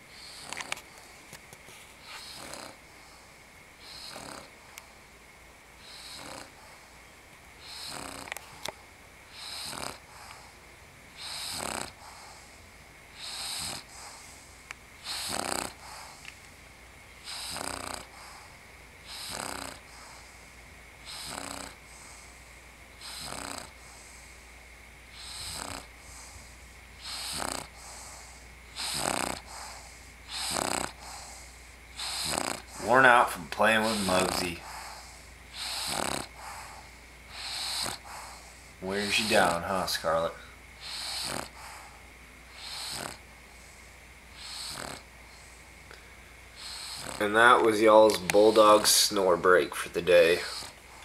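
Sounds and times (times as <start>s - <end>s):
dog snoring: 0.0s - 1.2s, 2.0s - 4.9s, 5.8s - 7.0s, 7.6s - 10.6s, 11.2s - 16.4s, 17.2s - 24.4s, 25.1s - 51.0s.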